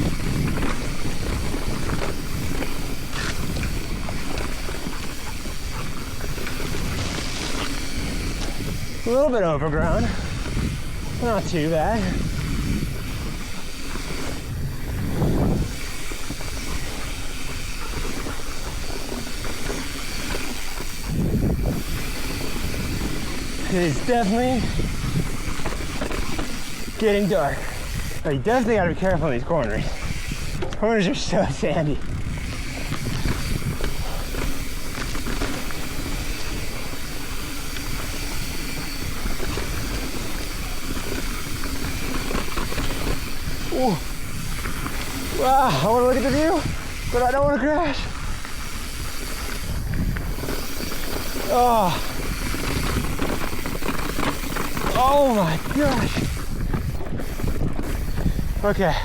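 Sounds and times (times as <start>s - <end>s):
bike tyres rattling over rock: 0.0s - 59.0s
wind noise on microphone: 0.0s - 59.0s.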